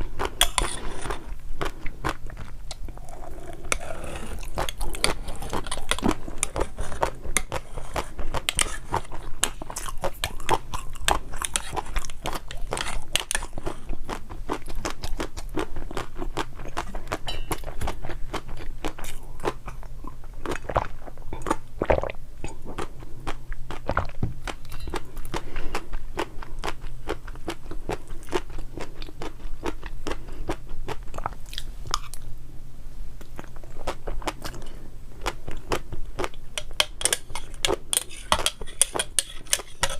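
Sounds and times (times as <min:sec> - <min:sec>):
crunching and chewing food: 0:00.0 - 0:32.3, 0:33.2 - 0:39.9.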